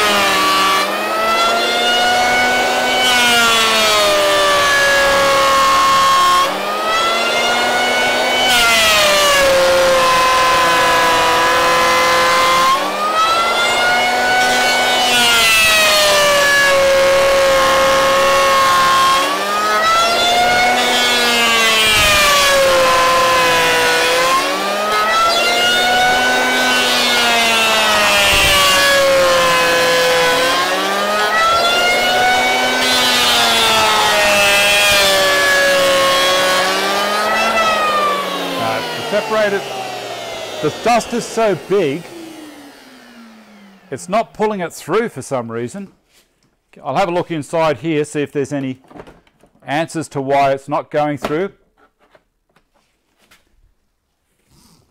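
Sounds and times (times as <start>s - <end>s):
electric hand planer cutting wood: 0.0s - 44.6s.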